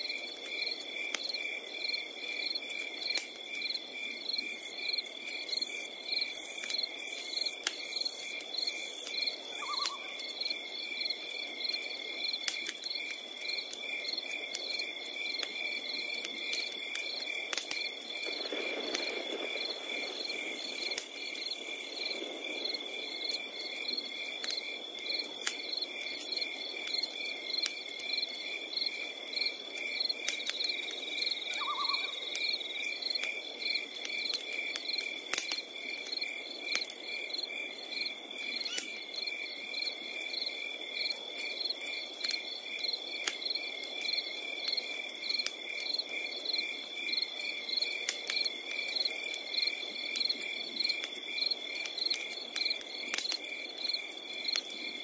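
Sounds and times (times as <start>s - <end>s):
campfire crackling and popping: 0.0s - 55.0s
crickets trilling: 0.0s - 55.0s.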